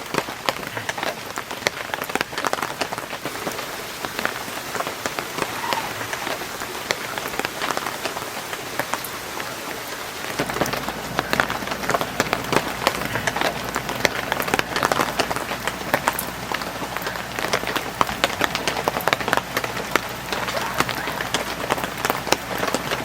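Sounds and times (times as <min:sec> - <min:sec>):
heavy rain on surfaces: 0:00.0 - 0:23.0.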